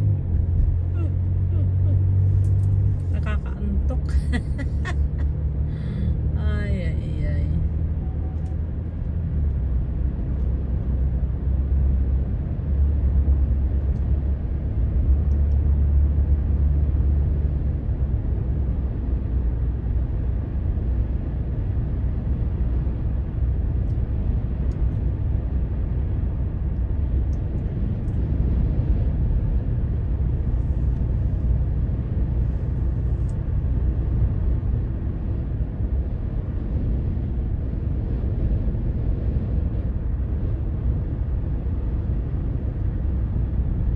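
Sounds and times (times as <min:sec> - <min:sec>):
road and engine rumble in car: 0:00.0 - 0:43.9.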